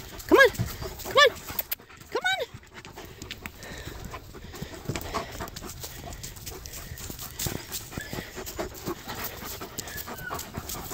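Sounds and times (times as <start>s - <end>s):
dogs panting: 0.0s - 10.9s.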